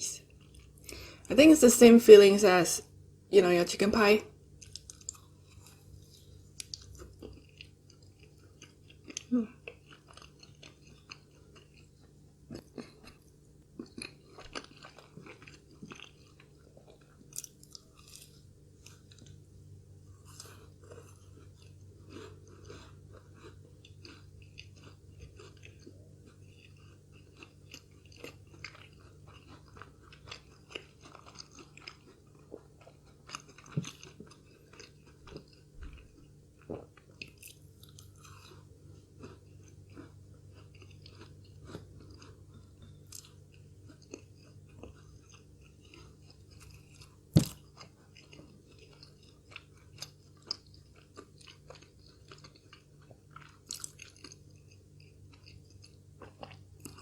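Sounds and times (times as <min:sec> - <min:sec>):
person chewing and crunching food: 0:00.2 - 0:01.4, 0:04.6 - 0:57.0.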